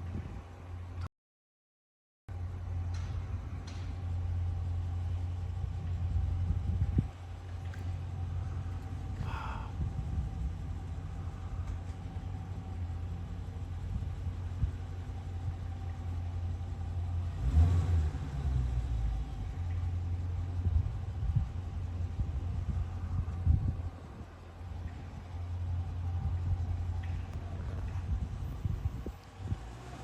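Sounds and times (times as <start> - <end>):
low outdoor rumble: 0.0 - 1.1, 2.3 - 30.0.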